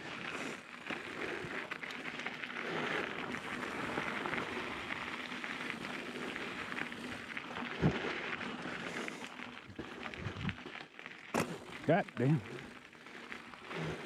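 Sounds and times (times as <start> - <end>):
bike tyres crunching gravel: 0.0 - 14.0.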